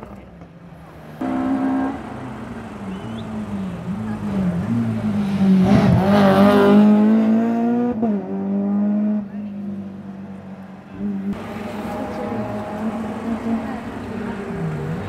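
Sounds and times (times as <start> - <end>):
rally car engine revving: 1.2 - 9.7, 11.0 - 15.0.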